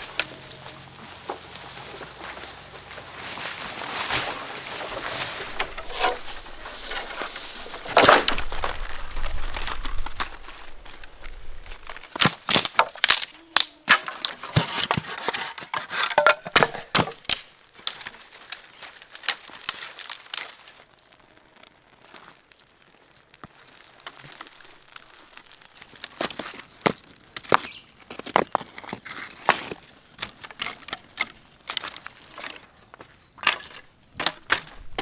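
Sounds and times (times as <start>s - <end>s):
brush rustling: 0.0s - 35.0s
dry twigs snapping: 4.1s - 32.7s.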